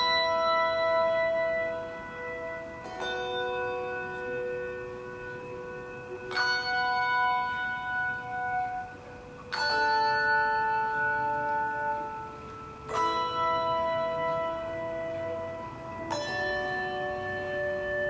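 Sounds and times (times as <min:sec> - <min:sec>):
handbell choir ringing chords: 0:00.0 - 0:18.0.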